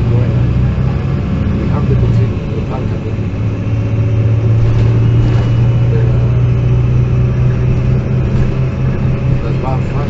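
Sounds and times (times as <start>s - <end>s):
bus diesel engine droning: 0.0s - 10.0s
road noise: 0.0s - 10.0s.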